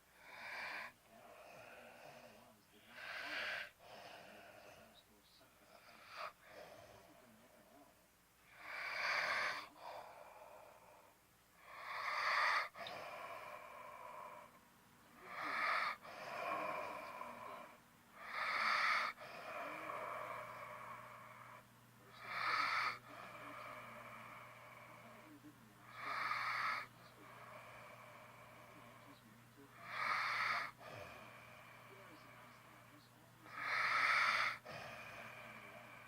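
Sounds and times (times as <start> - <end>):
person snoring: 0.0 - 7.9, 8.5 - 36.0.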